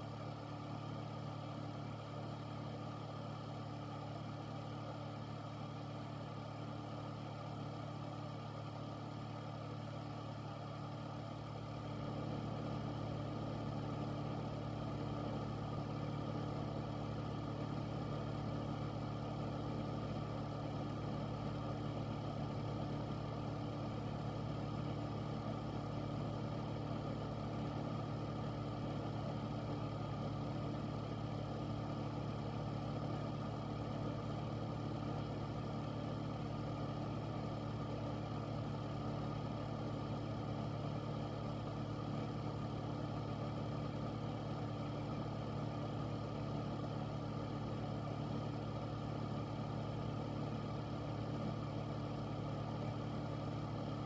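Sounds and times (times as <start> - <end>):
air filter fan running: 9.2 - 54.0.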